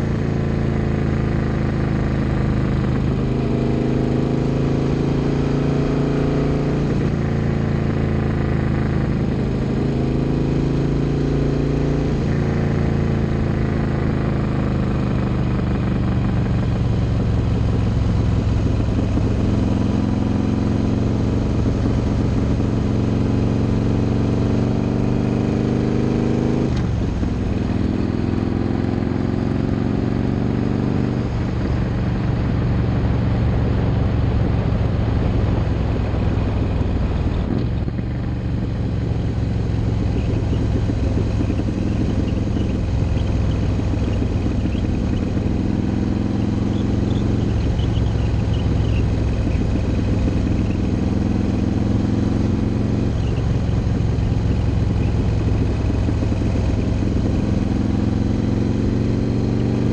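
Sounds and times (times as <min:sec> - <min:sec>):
motorcycle engine shifting gears: 0:00.0 - 0:59.9
wind and road noise: 0:00.0 - 0:59.9.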